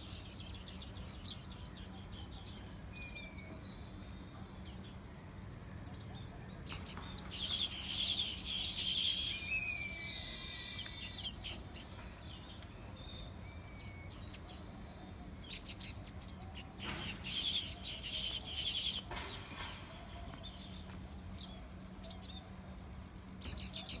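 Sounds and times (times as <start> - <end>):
small birds chirping and twittering: 0.0 - 24.0.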